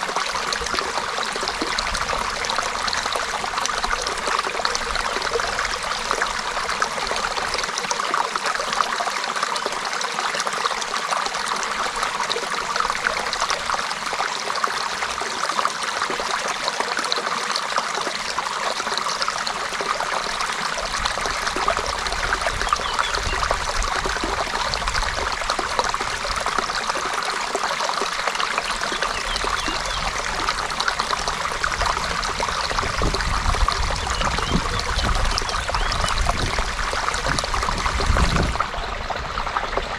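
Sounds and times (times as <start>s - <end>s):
creek water over stones: 0.0s - 39.9s.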